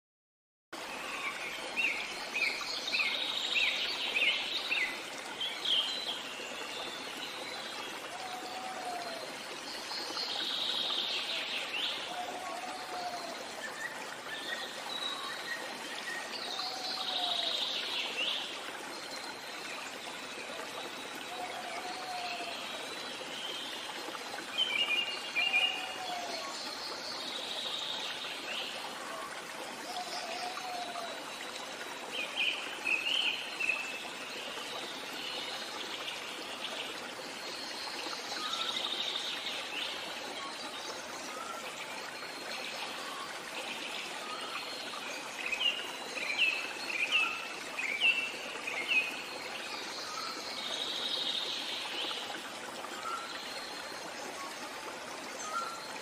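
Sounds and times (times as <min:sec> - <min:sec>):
small waterfall rushing: 0:00.8 - 0:56.0
forest birds calling and singing: 0:00.9 - 0:31.3, 0:32.1 - 0:52.3, 0:52.9 - 0:54.7, 0:55.4 - 0:56.0.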